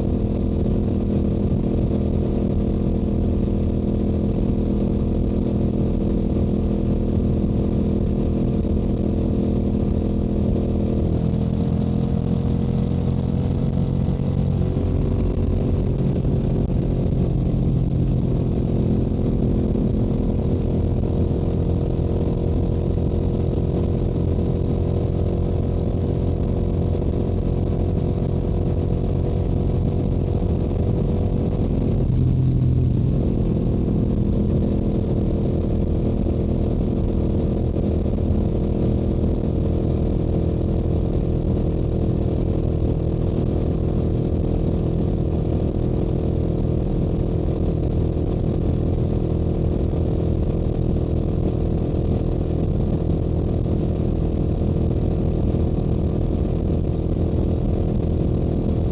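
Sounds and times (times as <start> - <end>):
motorcycle engine droning: 0.0 - 58.9
wind noise: 0.0 - 58.9.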